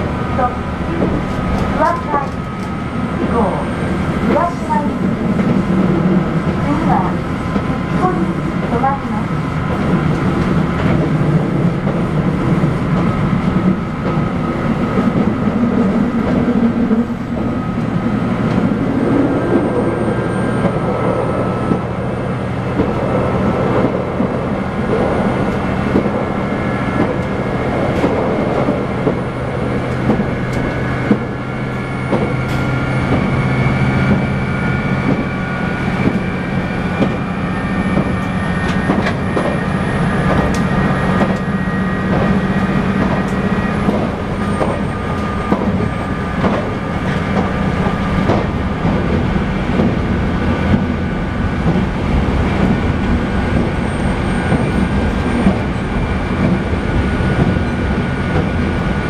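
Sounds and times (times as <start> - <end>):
diesel engines droning: 0.0 - 59.0
wheel and rail noise: 0.0 - 59.0.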